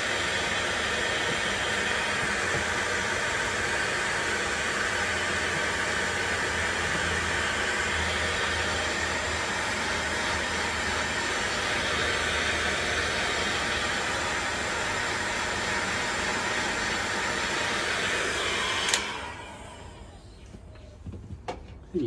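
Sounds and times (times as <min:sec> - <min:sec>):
heat gun blowing: 0:00.0 - 0:20.3.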